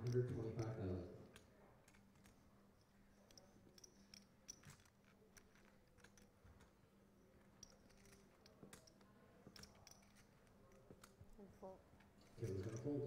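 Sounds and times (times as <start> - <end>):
poker chips clicking: 0.0 - 11.3.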